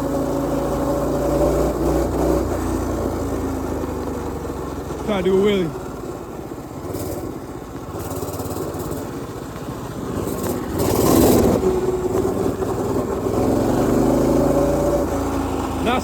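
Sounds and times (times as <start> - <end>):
mini bike engine revving: 0.0 - 16.0.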